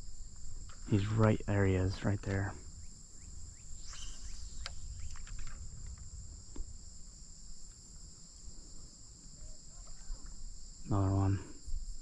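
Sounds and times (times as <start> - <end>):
faint ticks and chirps: 0.0 - 12.0
insects trilling: 0.0 - 12.0.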